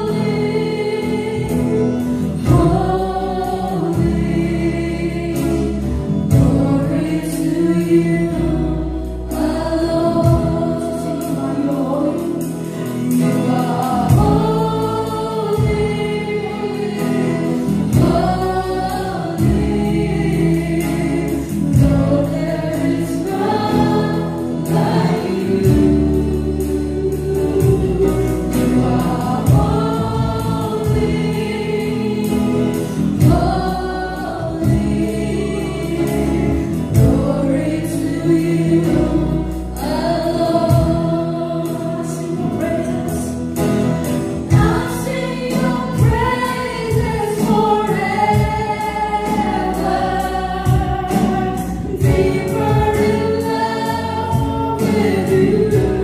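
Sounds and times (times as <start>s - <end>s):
acoustic guitar: 0.0s - 56.0s
bass guitar: 0.0s - 56.0s
drum kit: 0.0s - 56.0s
women's voices singing together: 0.0s - 56.0s.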